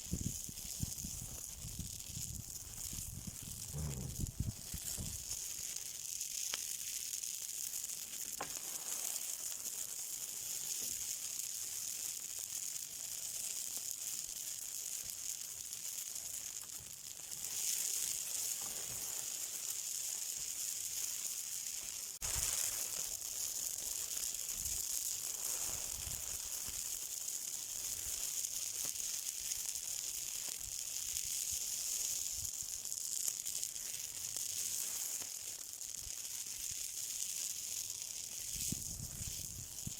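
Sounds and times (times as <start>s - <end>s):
burning sizzling hiss: 0.0s - 39.9s.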